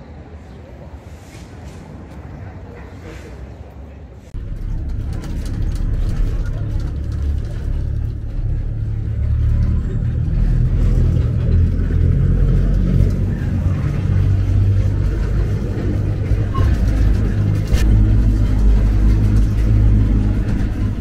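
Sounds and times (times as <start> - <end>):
funicular rumbling on rails: 0.0 - 21.0.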